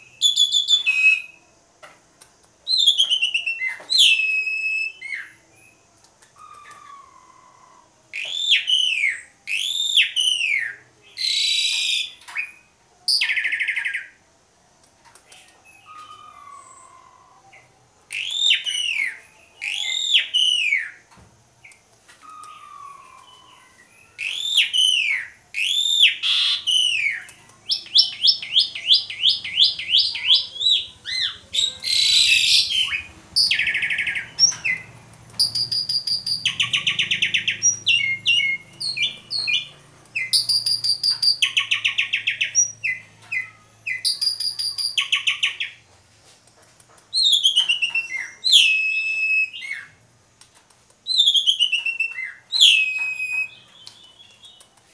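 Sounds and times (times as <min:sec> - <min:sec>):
starling singing: 0:02.7 - 0:14.2, 0:15.3 - 0:45.8, 0:47.1 - 0:50.0, 0:51.0 - 0:54.8.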